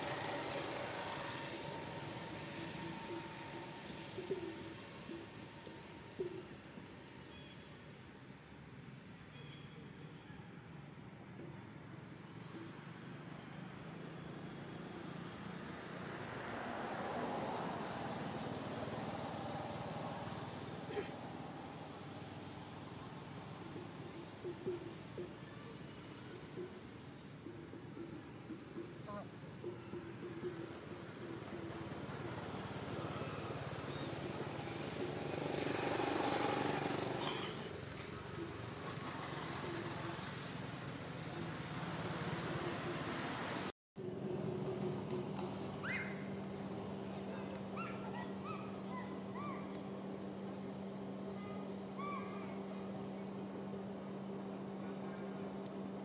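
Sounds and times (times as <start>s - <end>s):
outdoor background rush: 0.0s - 56.0s.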